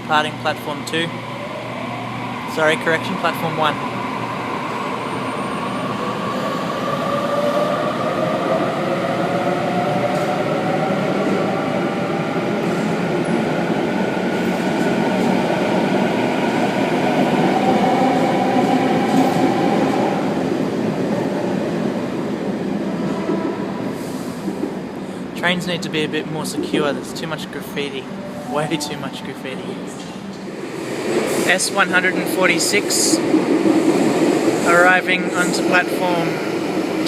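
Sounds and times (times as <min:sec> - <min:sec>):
train wheel and rail rumble: 0:00.0 - 0:28.5, 0:29.2 - 0:37.0.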